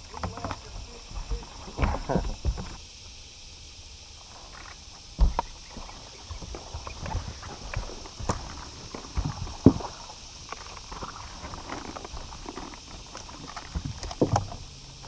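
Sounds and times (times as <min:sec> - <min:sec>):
footsteps and thumps on boat deck: 0:00.0 - 0:02.8, 0:05.2 - 0:14.7
steady high hiss: 0:00.0 - 0:15.0.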